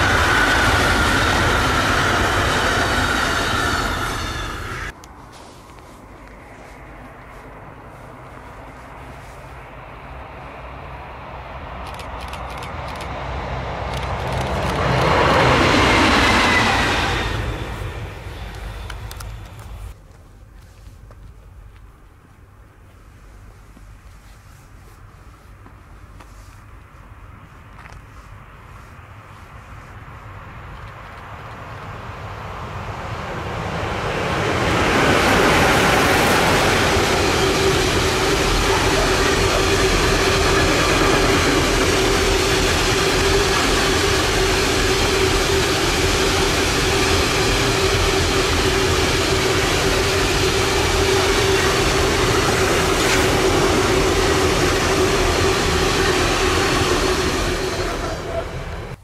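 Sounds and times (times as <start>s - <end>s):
train passing close by: 0.0s - 20.0s, 26.0s - 59.0s.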